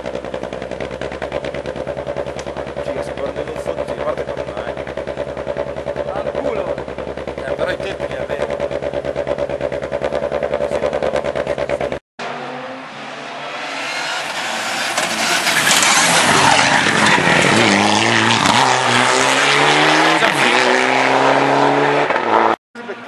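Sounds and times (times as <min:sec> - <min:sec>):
rapid engine pulsing: 0:00.0 - 0:12.0, 0:13.8 - 0:21.7
rally car passing revving: 0:00.0 - 0:23.0.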